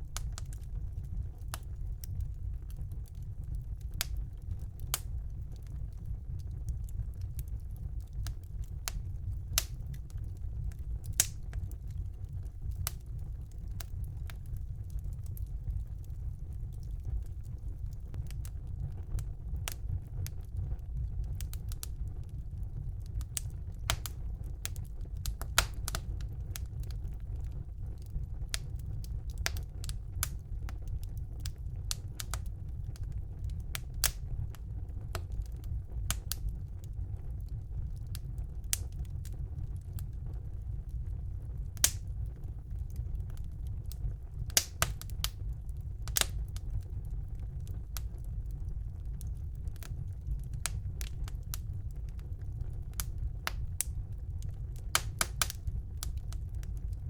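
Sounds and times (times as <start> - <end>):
flames rumbling: 0.0 - 57.0
logs crackling and popping: 0.0 - 57.0.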